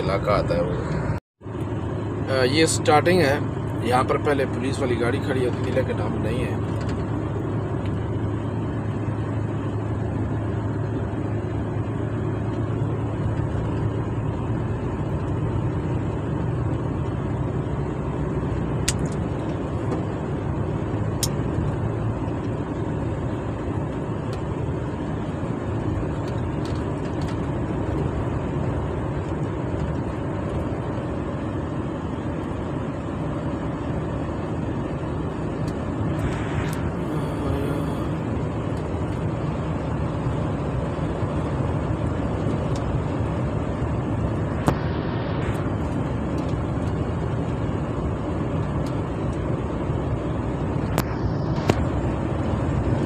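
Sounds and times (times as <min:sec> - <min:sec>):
road noise: 0:00.0 - 0:53.0
truck engine drone: 0:00.0 - 0:53.0.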